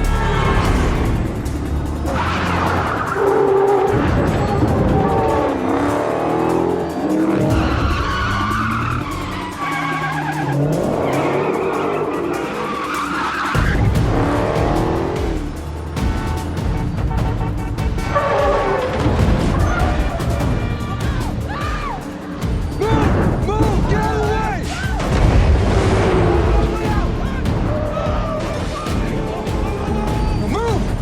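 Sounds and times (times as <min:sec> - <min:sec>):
car engines revving: 0:00.0 - 0:31.0
film score music: 0:00.0 - 0:31.0
tyres squealing: 0:00.0 - 0:31.0.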